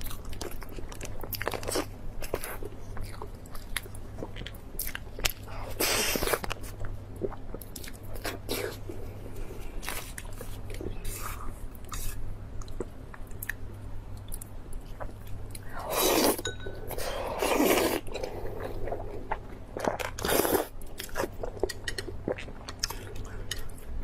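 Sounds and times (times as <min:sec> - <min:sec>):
chewing and crunching: 0:00.0 - 0:24.0.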